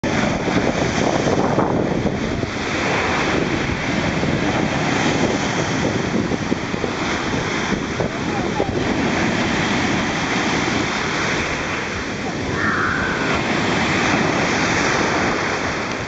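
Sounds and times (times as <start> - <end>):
sea waves washing: 0.0 - 16.0
wind buffeting microphone: 0.0 - 16.0.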